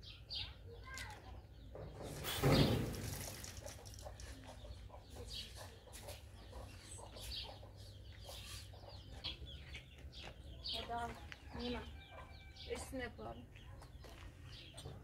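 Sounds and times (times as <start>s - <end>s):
chickens clucking: 1.6s - 15.0s.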